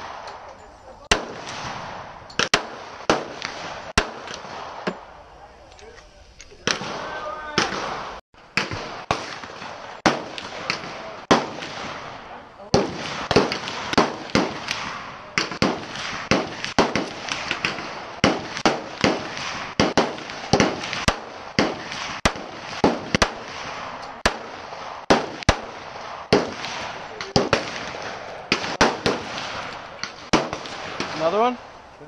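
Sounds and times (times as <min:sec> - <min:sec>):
gunshots: 0:00.0 - 0:05.1, 0:06.6 - 0:31.7.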